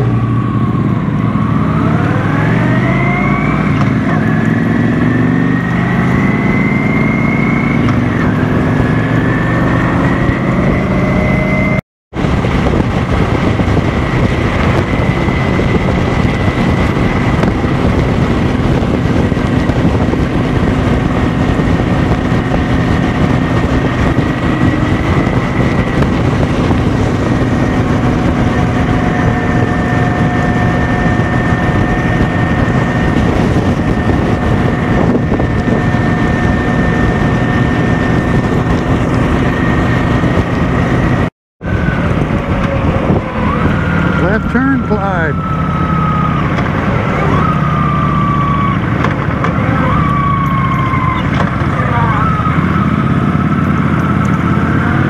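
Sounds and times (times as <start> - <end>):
motorcycle engine accelerating: 0.0 - 55.0
rushing noise: 0.0 - 55.0.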